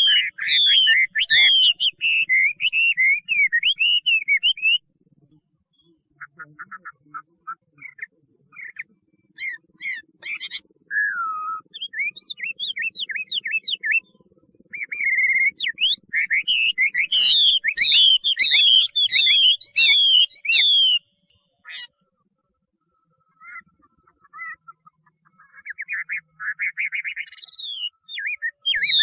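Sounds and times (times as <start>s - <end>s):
bird singing whistled notes: 0.0s - 22.0s, 23.4s - 29.0s.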